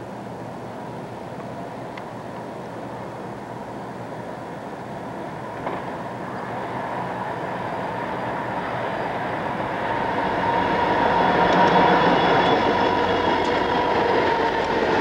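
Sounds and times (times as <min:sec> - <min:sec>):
diesel locomotives passing: 0:00.0 - 0:15.0
steady whine: 0:00.0 - 0:15.0
train wheel noise: 0:00.0 - 0:15.0.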